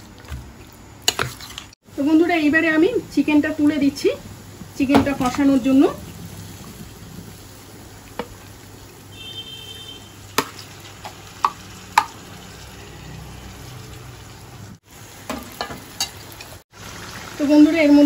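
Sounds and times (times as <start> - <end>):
chicken sizzling in hot oil: 1.6 - 18.0.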